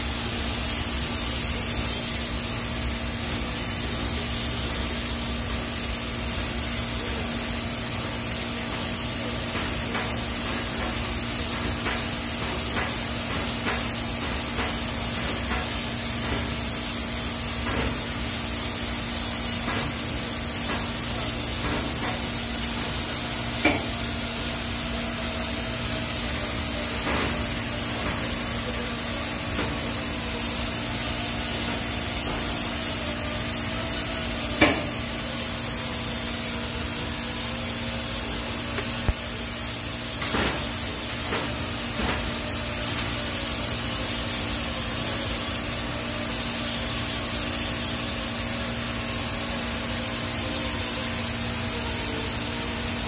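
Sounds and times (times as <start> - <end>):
welding arc hissing: 0.0 - 53.0.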